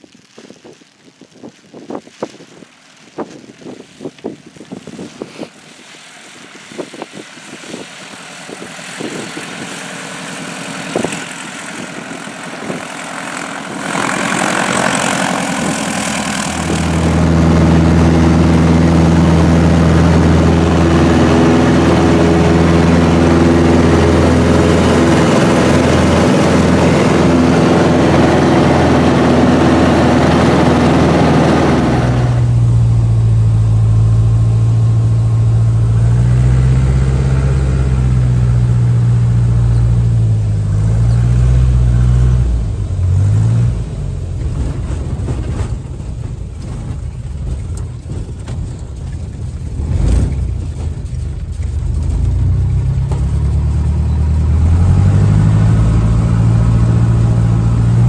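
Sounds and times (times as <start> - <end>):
propeller aircraft engine: 3.8 - 58.0
low engine drone: 5.1 - 58.0.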